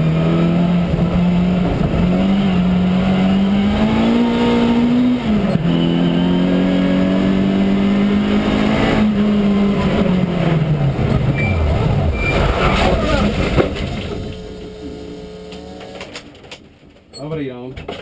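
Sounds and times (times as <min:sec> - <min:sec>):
rally car engine revving: 0:00.0 - 0:16.4.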